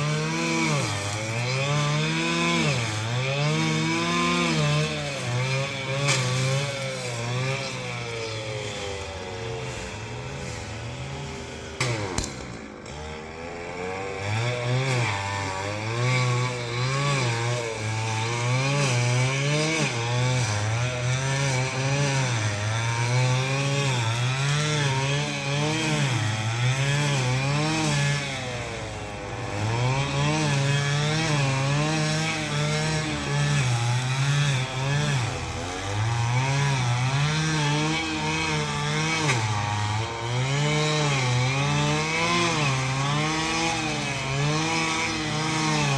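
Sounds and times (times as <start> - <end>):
two-stroke power tool cutting: 0.0 - 45.9.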